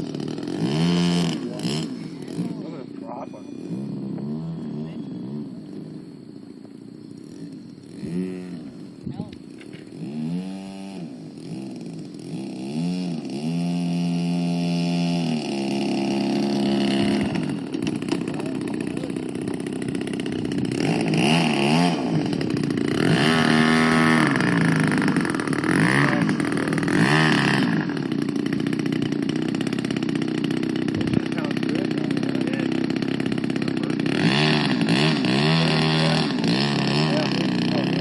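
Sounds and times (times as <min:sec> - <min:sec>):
model aircraft engine revving: 0:00.0 - 0:38.0.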